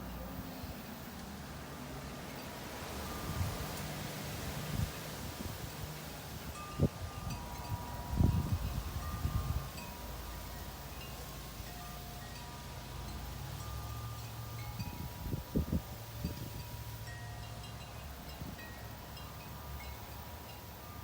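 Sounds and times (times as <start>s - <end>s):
low outdoor rumble: 0.0s - 21.0s
wind chimes ringing: 0.0s - 21.0s.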